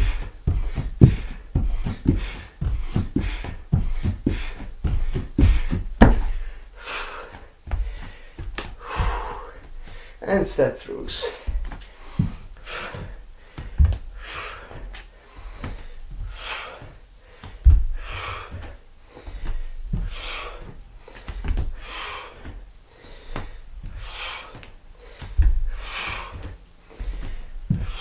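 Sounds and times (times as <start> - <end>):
bare feet thudding on wooden floor: 0.0 - 10.2, 11.2 - 28.0
man breathing hard: 0.0 - 10.2, 11.1 - 28.0.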